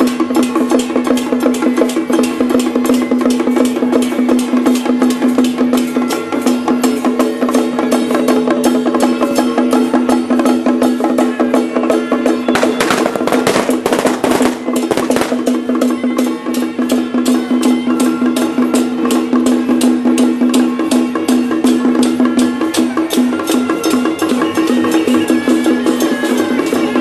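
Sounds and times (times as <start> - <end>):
sharp percussion strikes: 0.0 - 27.0.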